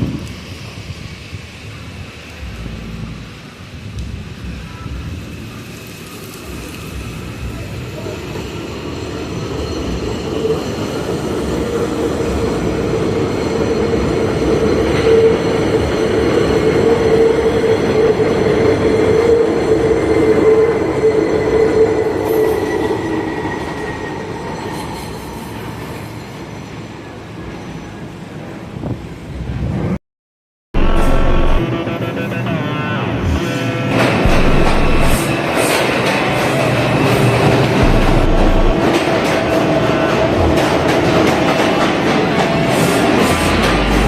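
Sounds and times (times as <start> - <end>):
elevated train passing: 0.0 - 30.0, 30.8 - 44.0.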